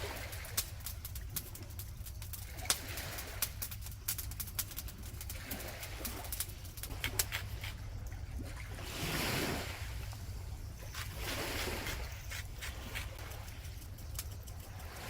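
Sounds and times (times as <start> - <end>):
low wind rumble: 0.0 - 15.0
sea waves washing ashore: 0.0 - 15.0.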